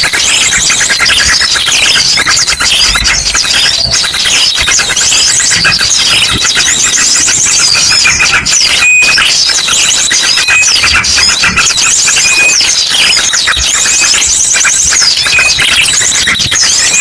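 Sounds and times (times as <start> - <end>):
drongo calling rapidly: 0.0 - 17.0
small birds chirping and trilling: 0.0 - 17.0.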